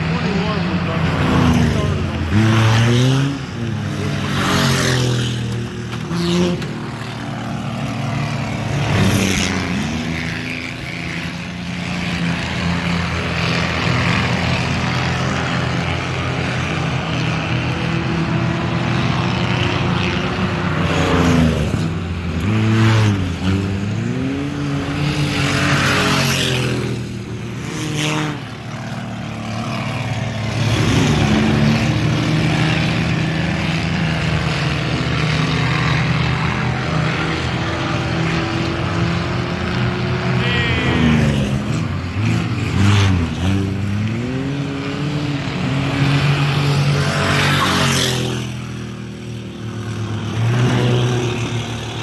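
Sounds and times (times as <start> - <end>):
race car engines revving past: 0.0 - 52.0.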